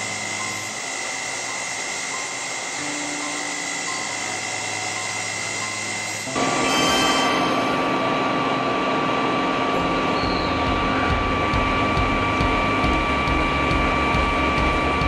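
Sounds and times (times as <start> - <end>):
low rumble of drilling: 0.0 - 6.6, 7.6 - 15.0
spindle whine: 0.0 - 15.0.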